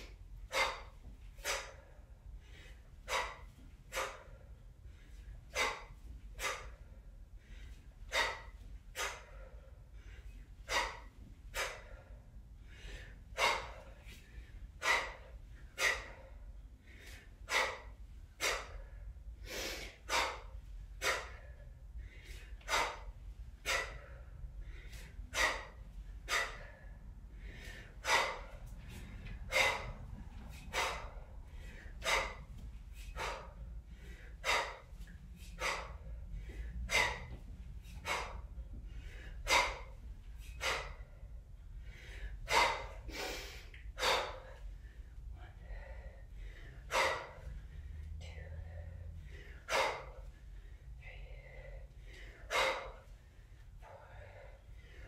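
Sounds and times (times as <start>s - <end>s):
woman breathing forcefully: 0.0s - 55.0s.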